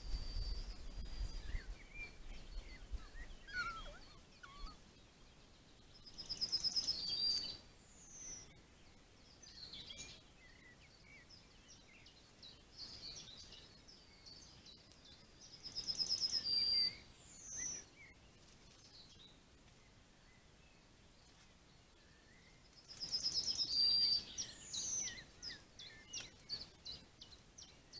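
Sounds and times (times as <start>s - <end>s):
faint bird chirps: 0.0s - 27.9s
songbird singing: 0.0s - 27.9s.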